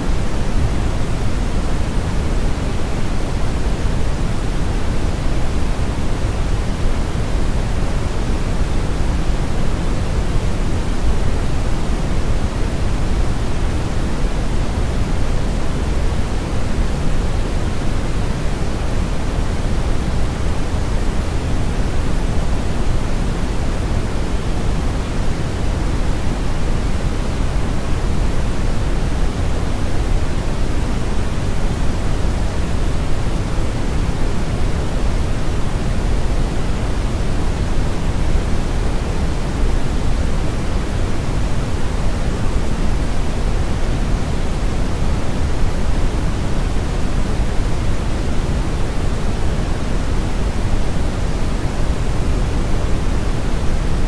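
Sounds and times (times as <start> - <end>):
brown noise rumble: 0.0 - 54.0.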